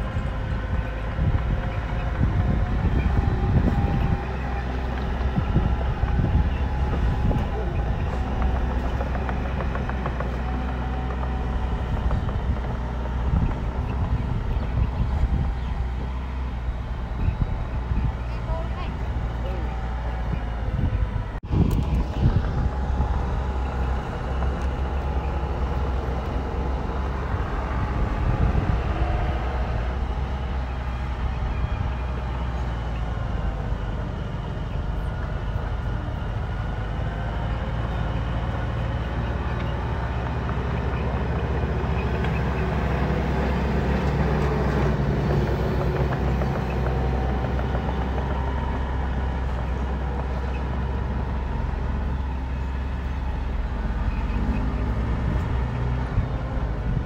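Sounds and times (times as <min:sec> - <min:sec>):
diesel engines of heavy machinery: 0:00.0 - 0:57.0.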